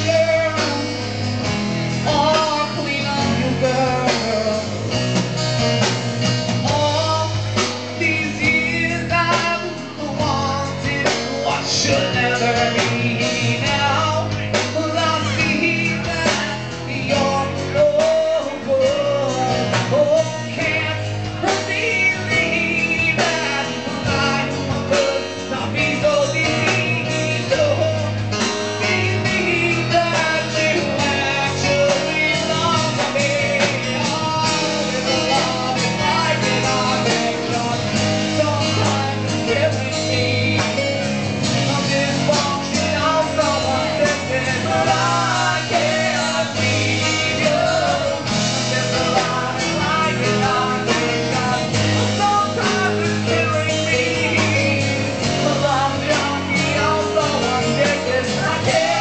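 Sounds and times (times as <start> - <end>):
person singing: 0.0 - 5.2, 5.8 - 59.0
live rock band playing: 0.0 - 59.0.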